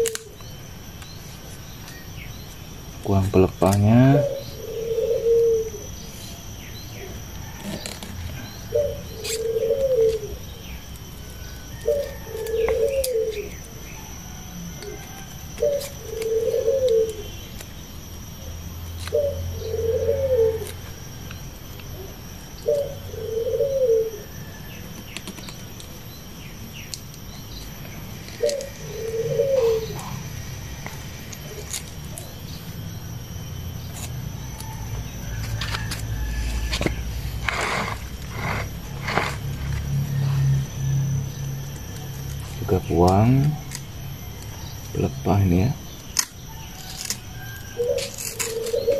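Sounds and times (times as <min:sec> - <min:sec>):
dove cooing: 0:00.0 - 0:00.4, 0:03.1 - 0:17.4, 0:19.0 - 0:20.9, 0:21.9 - 0:25.5, 0:28.0 - 0:48.9.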